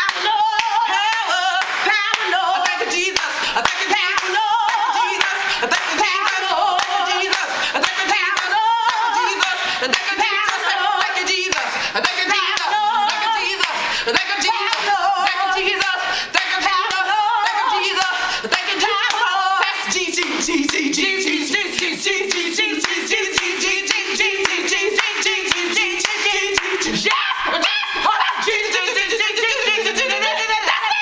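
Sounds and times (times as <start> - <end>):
fast rhythmic hand-clapping: 0.0 - 31.0
women singing gospel a capella: 0.0 - 31.0.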